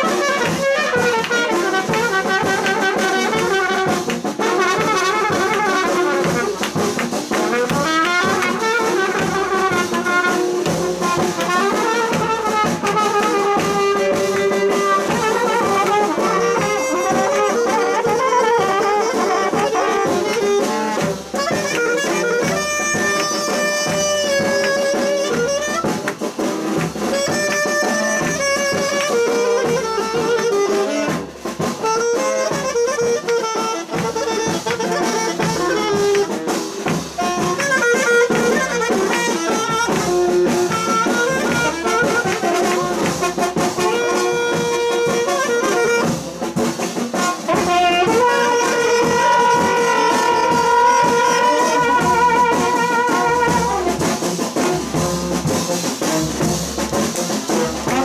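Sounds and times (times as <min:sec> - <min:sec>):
steady beat: 0:00.0 - 0:58.0
trumpet playing dance melody: 0:00.0 - 0:58.0.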